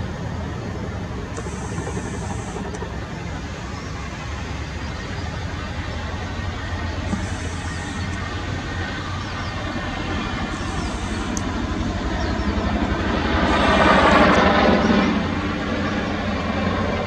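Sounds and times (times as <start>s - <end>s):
helicopter engine noise: 0.0s - 17.0s
helicopter rotor chop: 0.0s - 17.0s.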